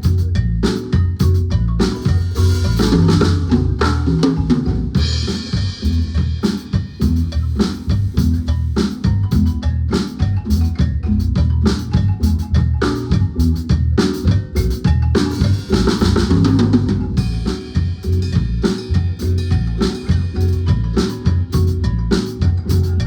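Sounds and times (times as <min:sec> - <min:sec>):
bass: 0:00.0 - 0:23.0
drum kit beat: 0:00.0 - 0:23.0
marimba: 0:00.0 - 0:23.0.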